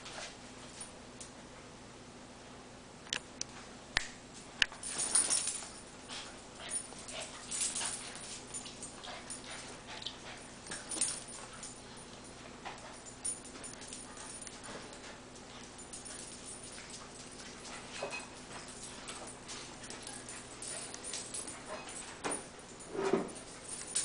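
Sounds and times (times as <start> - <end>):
dogs scrabbling and scuffling: 4.7 - 24.0.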